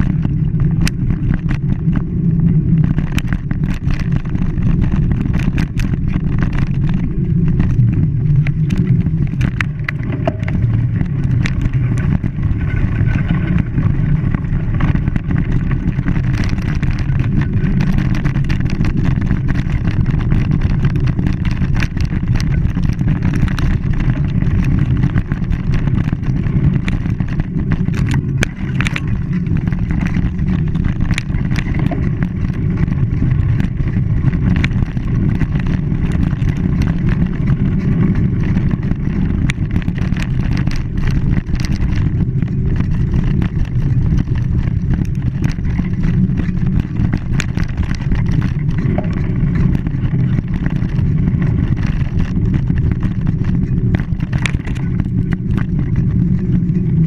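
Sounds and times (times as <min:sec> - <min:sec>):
vehicle low rumble: 0:00.0 - 0:57.0.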